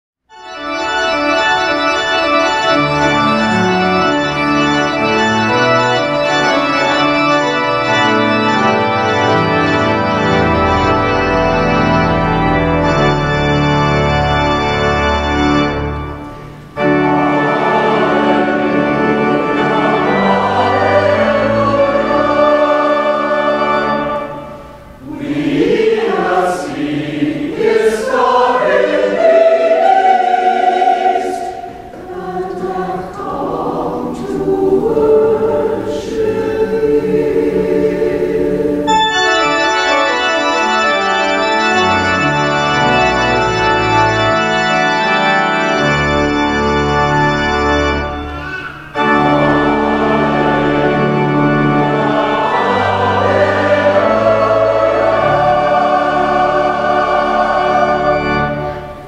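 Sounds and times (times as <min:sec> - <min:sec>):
pipe organ playing: 0:00.3 - 0:59.0
congregation singing a hymn: 0:00.4 - 0:59.0.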